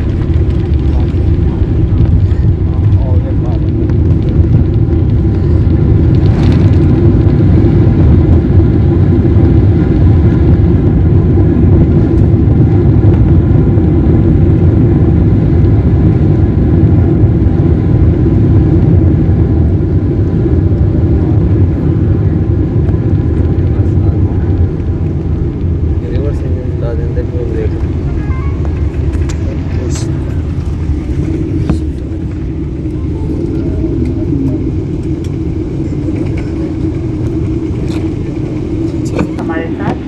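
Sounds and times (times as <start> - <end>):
airliner engines and wheels rumbling: 0.0 - 40.0.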